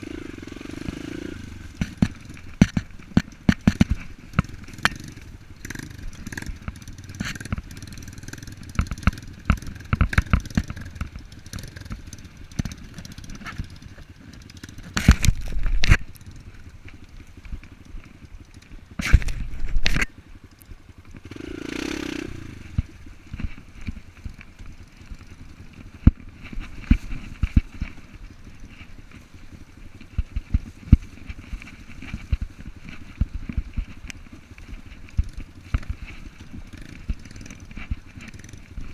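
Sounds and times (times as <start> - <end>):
motorcycle running over rough ground: 0.0 - 38.9.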